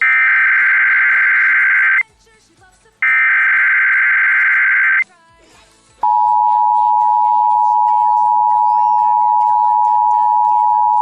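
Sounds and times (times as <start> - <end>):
steady two-tone alert signal: 0.0 - 2.0, 3.0 - 5.0, 6.0 - 11.0.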